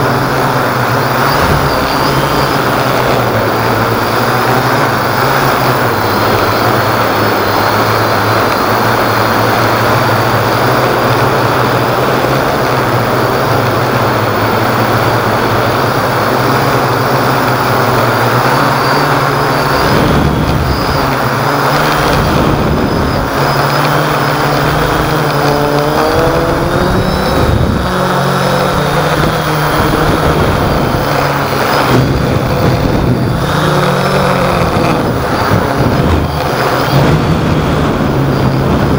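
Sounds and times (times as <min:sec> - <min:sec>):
drone propellers and motors droning: 0:00.0 - 0:38.9
strong wind rushing: 0:00.0 - 0:38.9.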